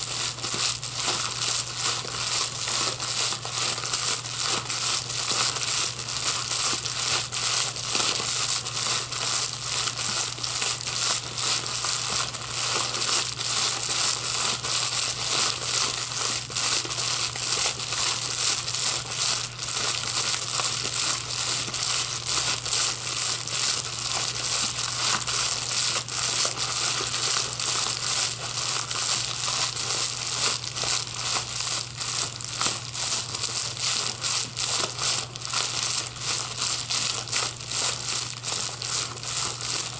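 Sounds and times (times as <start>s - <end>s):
plastic packaging crinkling: 0.0s - 39.9s.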